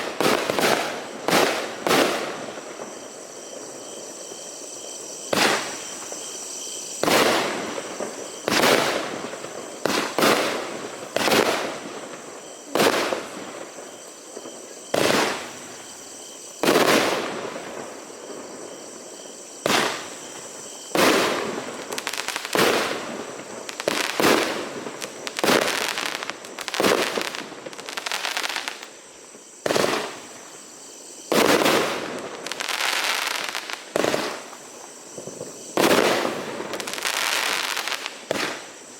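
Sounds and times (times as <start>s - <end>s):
firework bangs: 0.0s - 3.8s, 5.2s - 6.4s, 7.0s - 15.9s, 16.6s - 18.0s, 19.6s - 28.9s, 29.6s - 30.4s, 31.3s - 38.8s.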